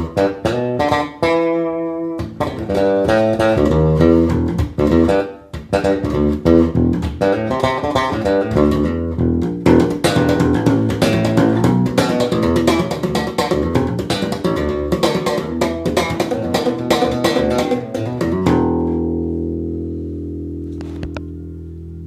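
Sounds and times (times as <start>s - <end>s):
electric bass playing notes: 0.0s - 22.0s.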